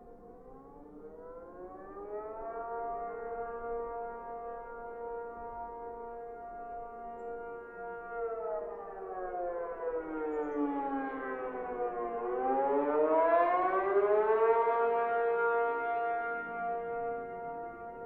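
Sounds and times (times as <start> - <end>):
tornado siren wailing: 0.0 - 18.0.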